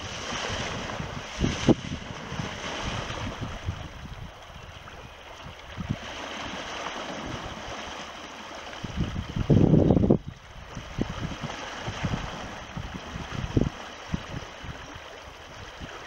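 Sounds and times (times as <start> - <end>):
river current rushing: 0.0 - 16.0.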